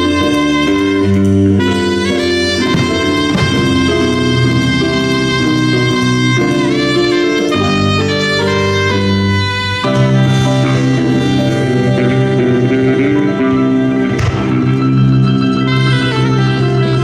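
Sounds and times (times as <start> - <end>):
live jazz band playing: 0.0 - 17.0.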